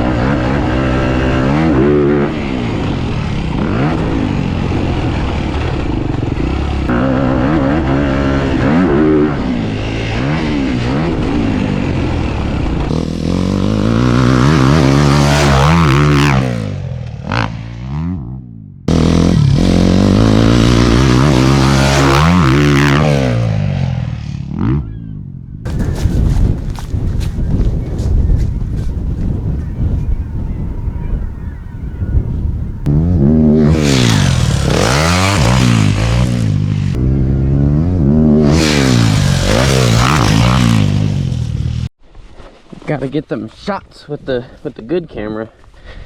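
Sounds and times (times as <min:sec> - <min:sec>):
dirt bike engine revving: 0:00.0 - 0:25.0, 0:25.7 - 0:31.7, 0:32.3 - 0:41.9.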